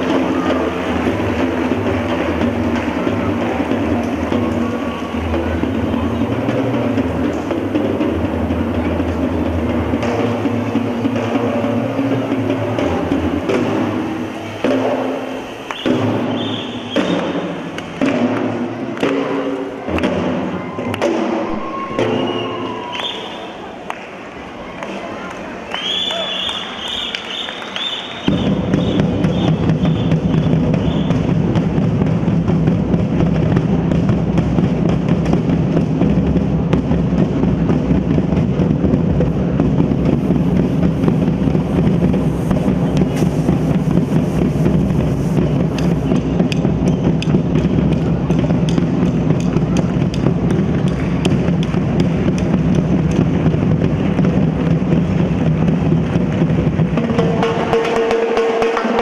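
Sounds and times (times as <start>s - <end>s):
percussion ensemble drumming: 0.0s - 24.9s, 25.6s - 59.0s.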